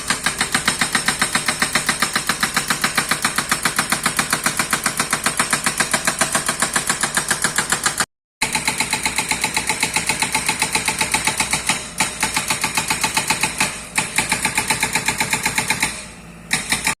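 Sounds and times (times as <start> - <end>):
hydraulic breaker hammering: 0.0 - 17.0.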